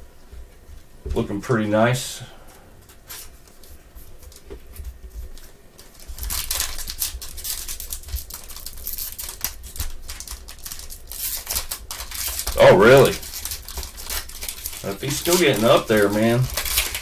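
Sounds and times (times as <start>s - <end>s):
faint handling of cards: 2.2s - 17.0s
plastic wrapper crinkling: 2.9s - 17.0s.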